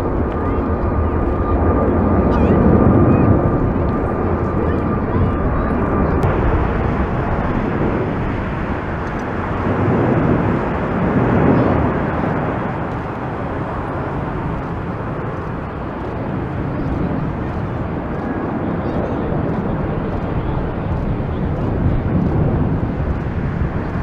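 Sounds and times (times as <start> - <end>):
jet airliner roar overhead: 0.0 - 24.0.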